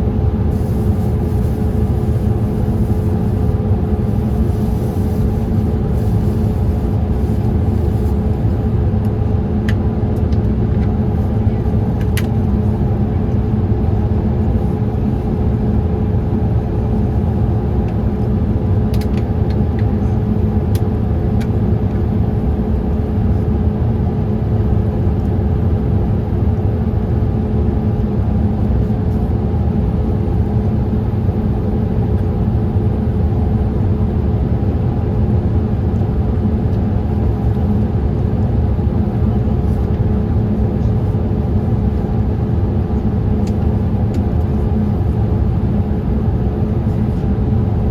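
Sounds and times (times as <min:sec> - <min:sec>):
airplane cabin rumble: 0:00.0 - 0:47.9
faint constant hum: 0:00.0 - 0:47.9.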